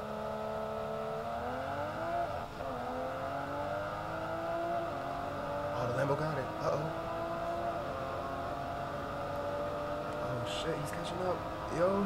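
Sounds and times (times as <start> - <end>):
sports car engine accelerating: 0.0 - 12.0.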